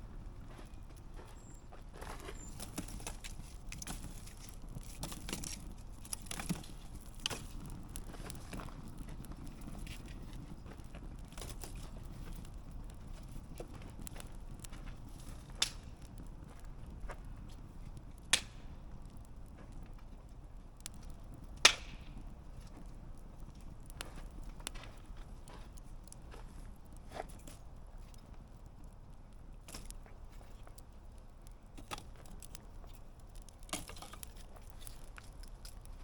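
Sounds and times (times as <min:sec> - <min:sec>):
campfire crackling: 0:00.0 - 0:36.0
sharp fire pops: 0:02.3 - 0:36.0.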